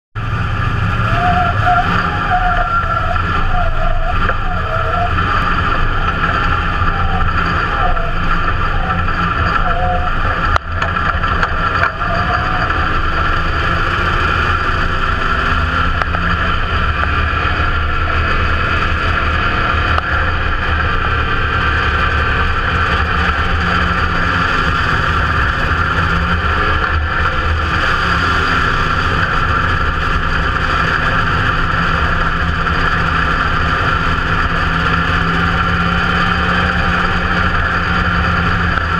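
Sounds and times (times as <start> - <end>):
race car engine running: 0.2 - 38.9.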